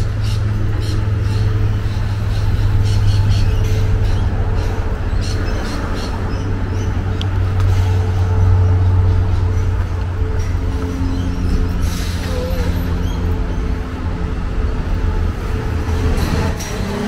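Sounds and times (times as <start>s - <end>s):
road traffic engine hum: 0.0s - 17.0s.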